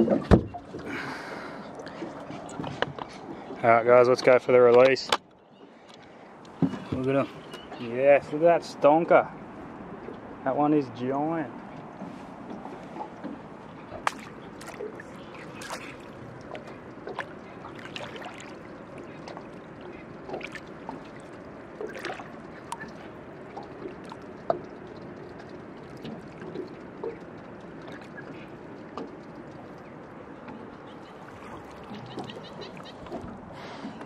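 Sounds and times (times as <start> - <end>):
water lapping and trickling: 0.0 - 34.0
water splashes: 0.0 - 34.0.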